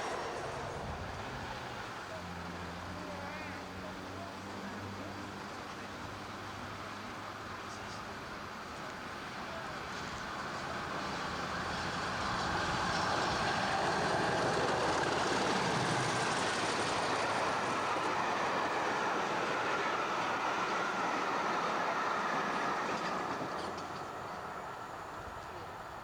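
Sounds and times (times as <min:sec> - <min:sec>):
diesel train passing on rails: 0:00.0 - 0:26.0.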